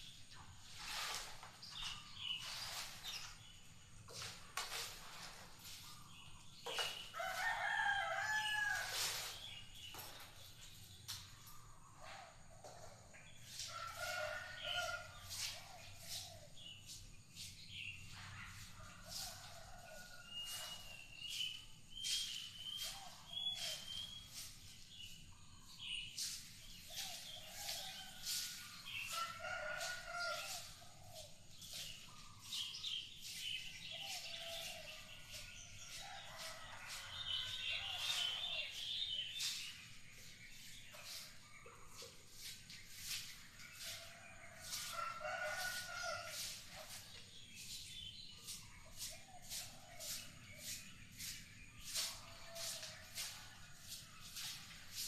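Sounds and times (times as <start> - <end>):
birds calling and chirping: 0.0 - 55.0.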